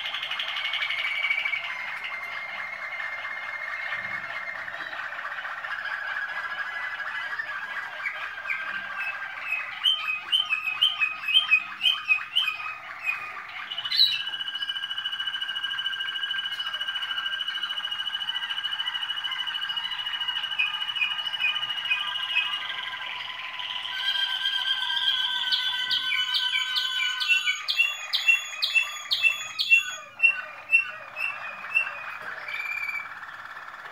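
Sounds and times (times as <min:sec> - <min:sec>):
canary singing trills: 0:00.0 - 0:33.7.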